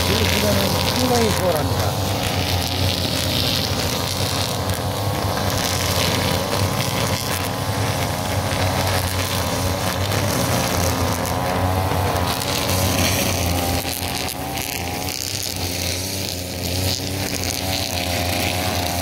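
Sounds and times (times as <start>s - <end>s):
brush cutters cutting grass: 0.0s - 19.0s.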